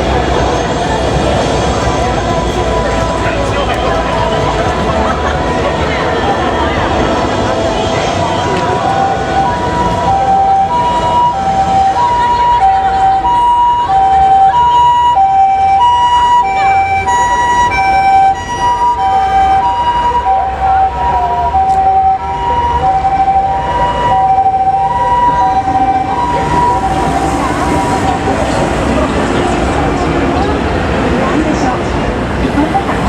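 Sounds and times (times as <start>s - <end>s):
street traffic rumble: 0.0s - 33.0s
two-tone ambulance siren: 0.0s - 33.0s.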